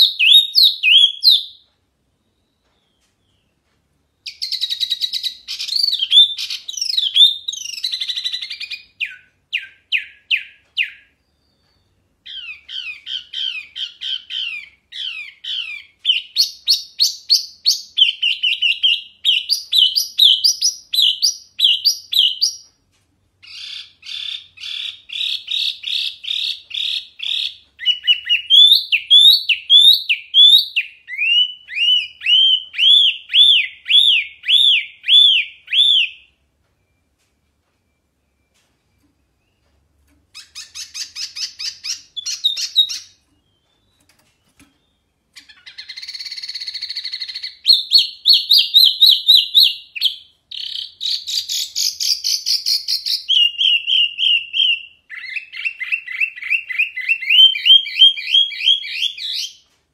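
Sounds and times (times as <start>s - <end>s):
bird singing whistled notes: 0.0s - 1.6s, 4.1s - 22.6s, 23.5s - 37.2s, 40.4s - 59.6s.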